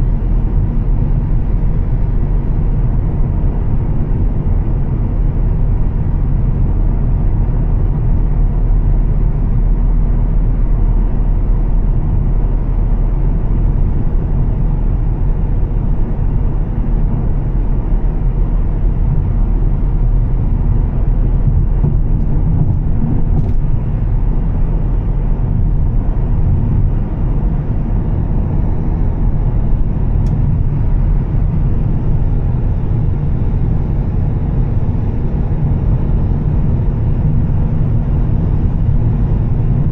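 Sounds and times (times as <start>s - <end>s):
car engine droning: 0.0s - 39.9s
road noise: 0.0s - 39.9s.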